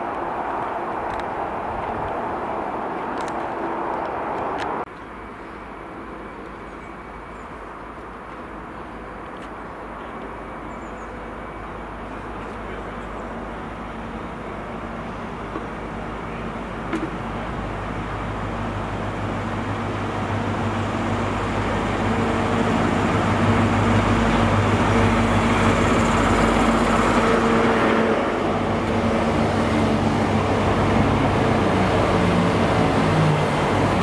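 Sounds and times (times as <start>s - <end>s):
train wheels on rails: 0.0s - 5.1s, 7.6s - 34.0s
diesel train engine drone: 0.0s - 34.0s.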